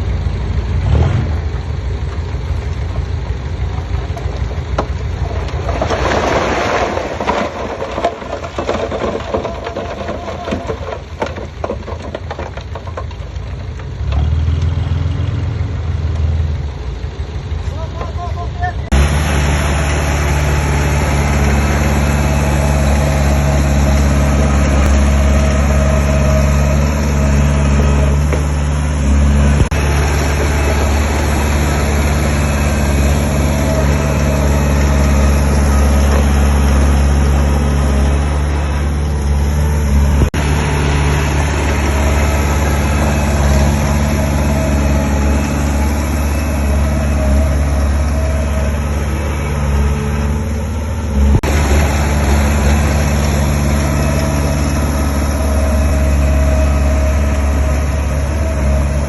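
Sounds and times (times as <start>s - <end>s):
heavy machinery diesel engine running: 0.0s - 59.0s.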